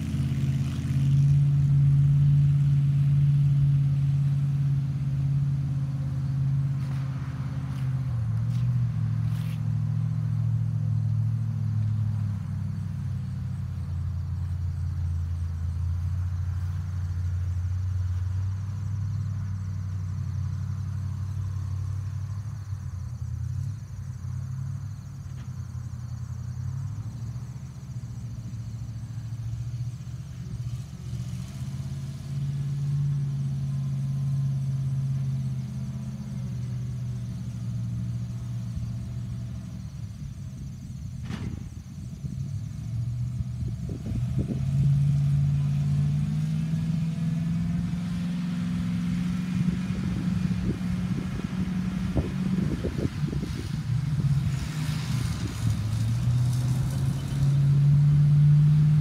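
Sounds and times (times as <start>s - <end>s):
fire truck engine driving: 0.0s - 59.0s.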